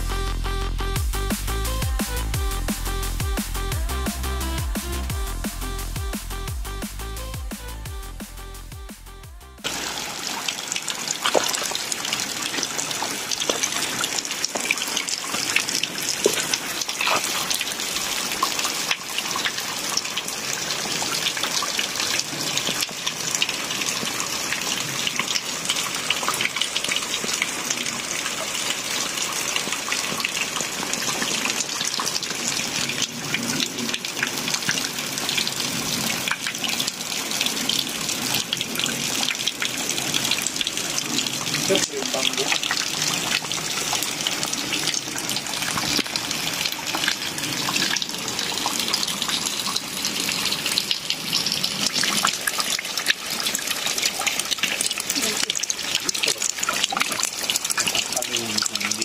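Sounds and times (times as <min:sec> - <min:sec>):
small waterfall splashing onto rocks: 0:09.6 - 0:59.0.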